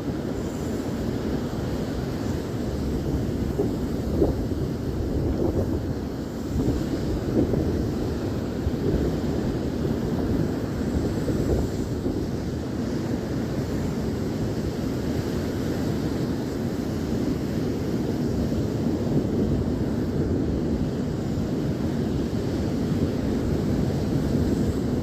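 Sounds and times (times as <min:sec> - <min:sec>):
ocean surf rumble: 0:00.0 - 0:25.0
wind buffeting microphone: 0:00.0 - 0:25.0.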